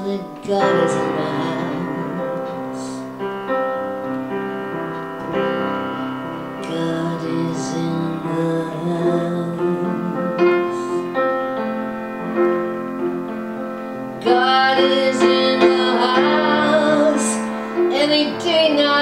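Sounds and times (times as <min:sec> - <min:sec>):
piano playing chords: 0:00.0 - 0:19.0.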